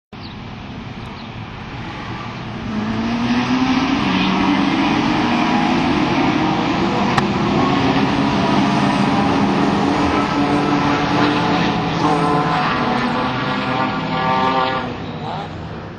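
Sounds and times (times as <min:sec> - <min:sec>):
race car engine at high revs: 0:01.0 - 0:15.9.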